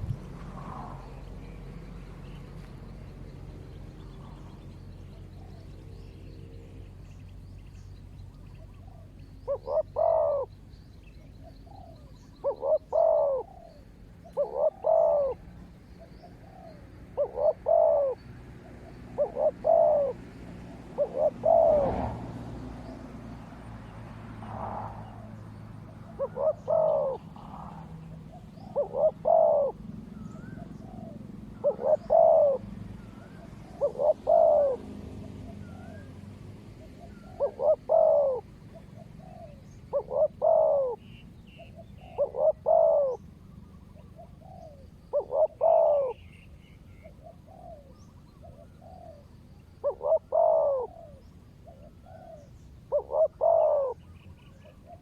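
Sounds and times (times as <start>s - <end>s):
doves cooing: 0.0s - 1.4s, 8.5s - 10.6s, 11.4s - 23.4s, 24.3s - 55.0s
small birds chirping: 0.0s - 22.0s, 22.7s - 55.0s.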